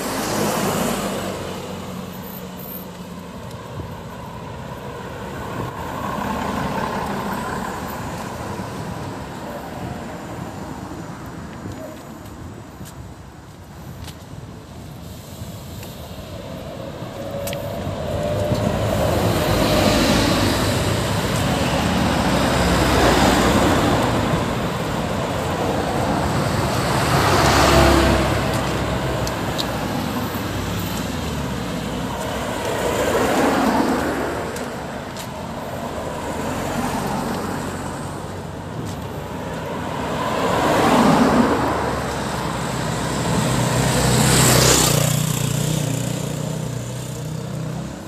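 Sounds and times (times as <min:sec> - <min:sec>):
steady traffic hum: 0:00.0 - 0:48.0
vehicles passing by: 0:00.0 - 0:48.0.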